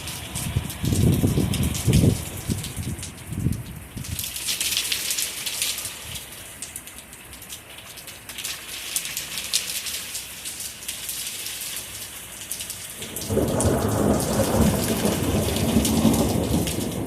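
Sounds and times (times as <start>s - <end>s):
rain falling steadily: 0.0s - 17.0s
raindrops ticking close by: 0.0s - 17.0s.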